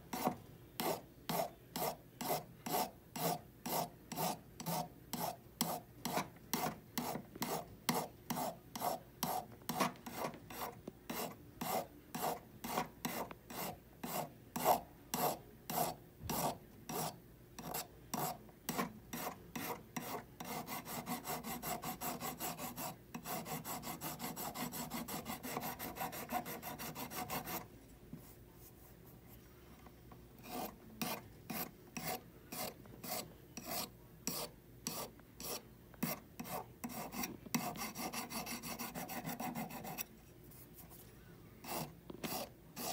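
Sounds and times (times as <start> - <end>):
hand file rasping on metal: 0.1 - 27.6, 30.4 - 40.0, 41.6 - 42.9.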